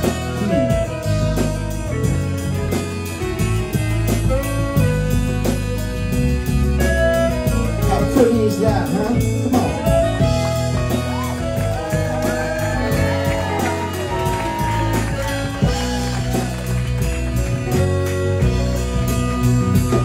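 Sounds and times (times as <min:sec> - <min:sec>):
bending lead guitar line: 0:00.0 - 0:20.0
rock band playing: 0:00.0 - 0:20.0.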